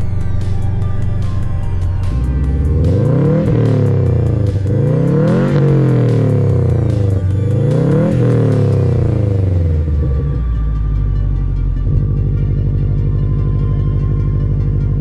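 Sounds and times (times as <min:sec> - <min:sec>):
background music: 0:00.0 - 0:15.0
car engine revving: 0:00.0 - 0:15.0.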